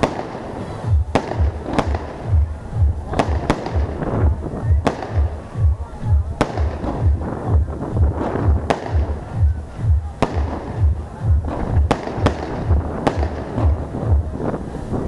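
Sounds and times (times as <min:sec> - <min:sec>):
fireworks bangs: 0:00.0 - 0:15.0
music with thumping bass beat: 0:00.0 - 0:15.0.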